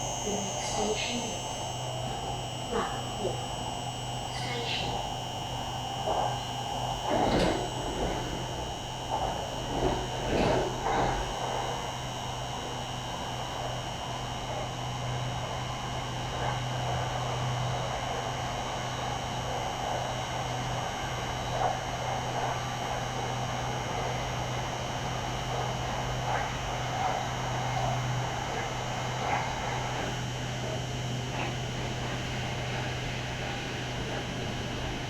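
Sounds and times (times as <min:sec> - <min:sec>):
train interior hum: 0:00.0 - 0:35.0.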